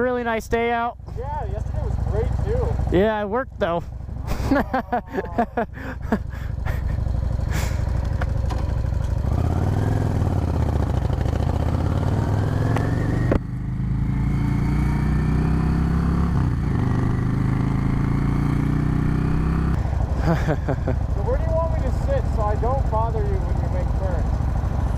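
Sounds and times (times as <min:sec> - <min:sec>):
motorcycle engine accelerating: 0:00.0 - 0:24.9.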